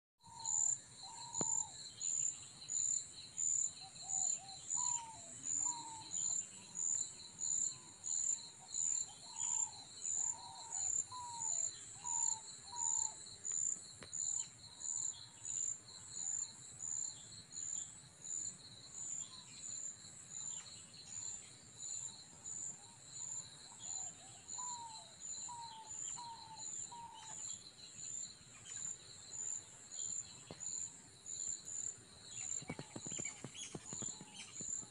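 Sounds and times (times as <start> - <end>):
insect chirping: 0.2 - 34.9.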